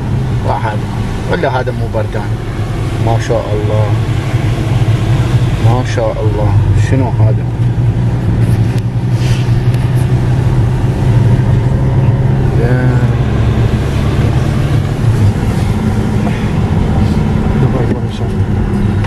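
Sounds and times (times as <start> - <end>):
car engine and road drone: 0.0 - 19.0.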